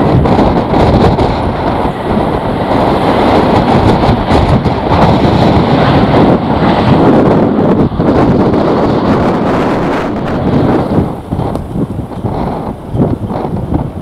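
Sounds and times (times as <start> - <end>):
gusty wind on microphone: 0.0 - 14.0.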